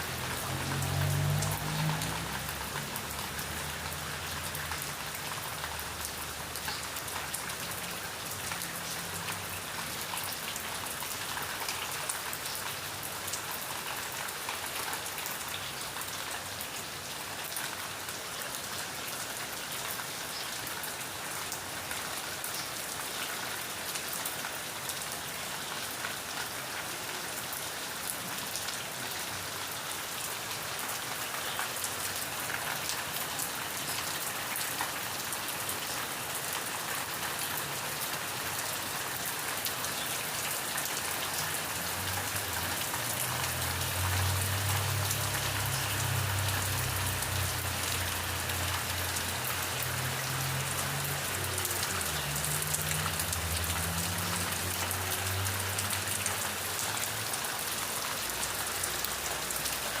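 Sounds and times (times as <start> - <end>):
steady rain pattering: 0.0 - 60.0.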